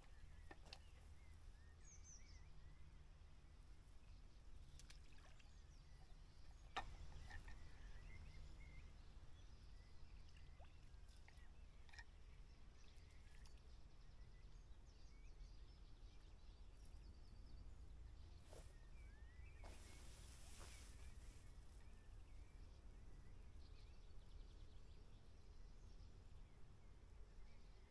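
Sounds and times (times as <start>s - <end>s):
faint bird chirps: 3.9s - 27.9s.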